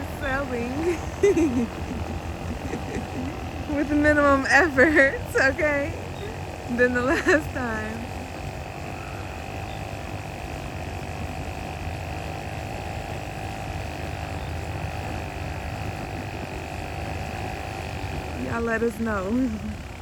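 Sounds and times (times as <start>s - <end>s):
string trimmer engine whining: 0.0s - 20.0s.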